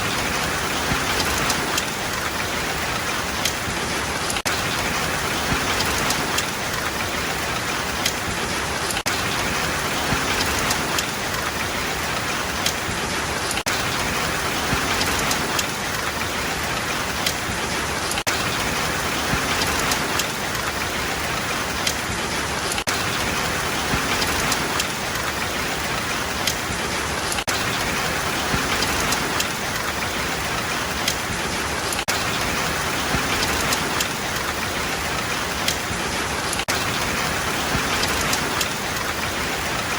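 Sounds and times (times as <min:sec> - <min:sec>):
heavy rain hissing: 0:00.0 - 0:39.9
raindrops pattering on a surface: 0:00.0 - 0:39.9.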